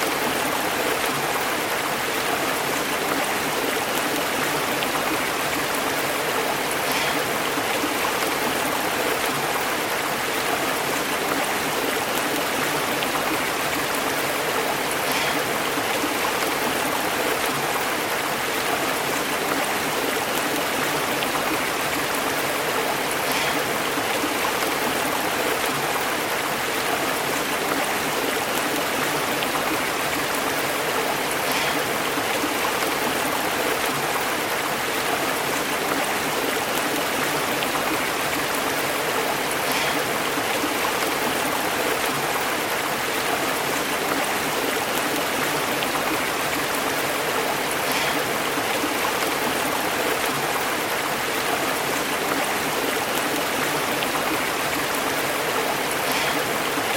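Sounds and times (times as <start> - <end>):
stream bubbling over rocks: 0.0 - 56.9.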